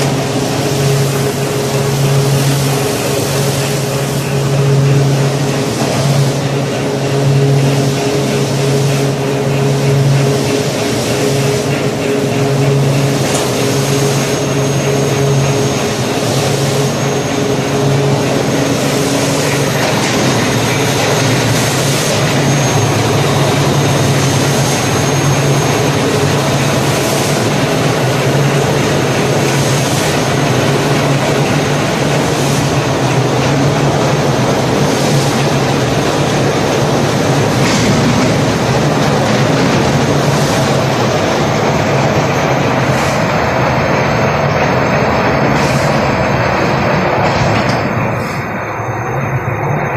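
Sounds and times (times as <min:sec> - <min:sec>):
steady low hum: 0:00.0 - 0:48.8
machinery rumbling: 0:00.0 - 0:49.9.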